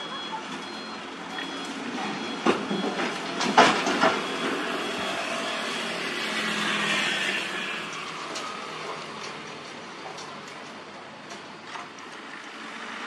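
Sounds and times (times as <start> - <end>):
excavator engine and hydraulics whine: 0.0 - 13.0.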